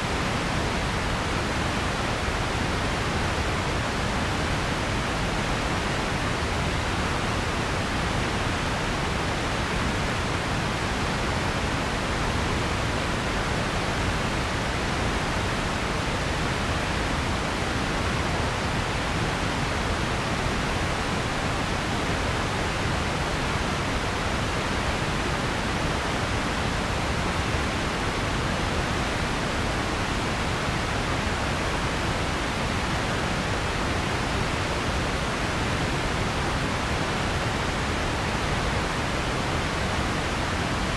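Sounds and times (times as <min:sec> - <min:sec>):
steady noise hiss: 0:00.0 - 0:40.9.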